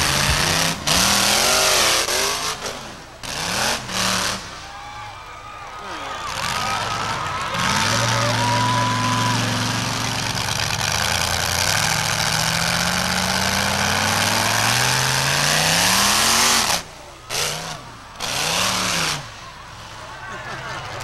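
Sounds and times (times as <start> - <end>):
monster truck engine revving: 0.0 - 4.9, 5.8 - 21.0.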